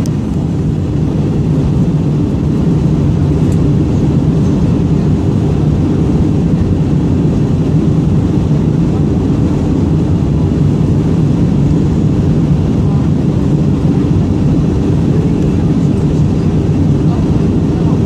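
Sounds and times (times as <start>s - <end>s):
jet engine drone: 0.0s - 18.0s.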